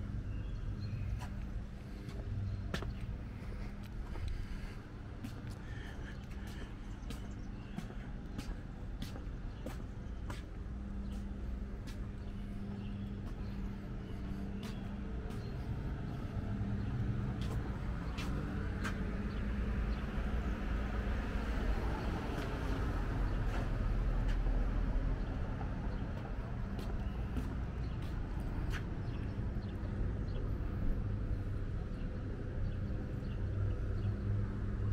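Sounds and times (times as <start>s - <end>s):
vehicle engine humming: 0.0s - 34.9s
footsteps on pavement: 0.2s - 34.1s.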